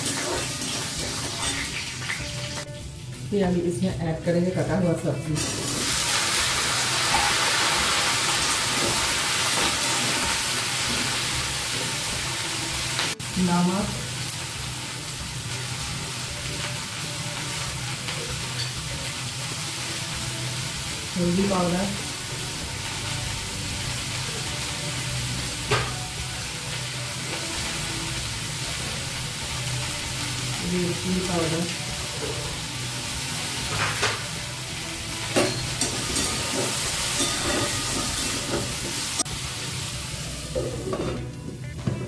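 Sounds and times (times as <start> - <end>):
vegetables sizzling in oil: 0.0 - 41.9.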